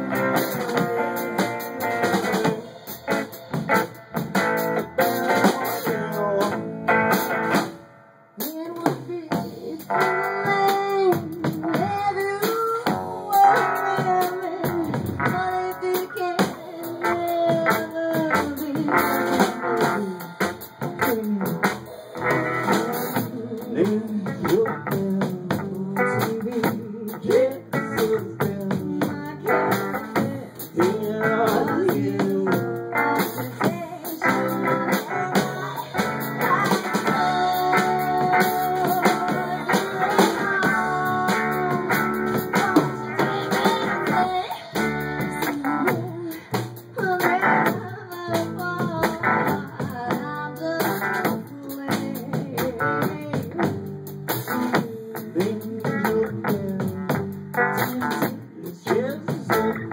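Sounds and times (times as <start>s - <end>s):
upright bass: 0.0s - 7.8s, 8.4s - 59.9s
swing band music: 0.0s - 59.9s
woman singing: 4.7s - 7.4s, 8.4s - 59.9s.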